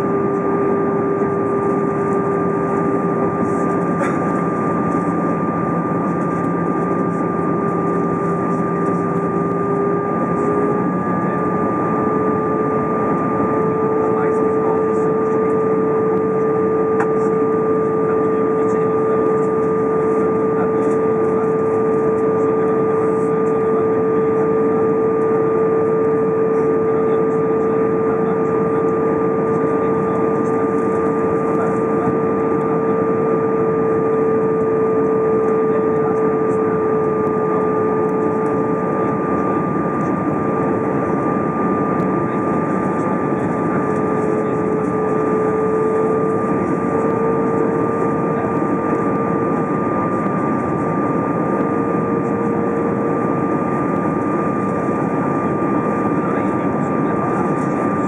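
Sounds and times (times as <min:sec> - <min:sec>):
aircraft cabin engine and airflow noise: 0:00.0 - 0:58.0.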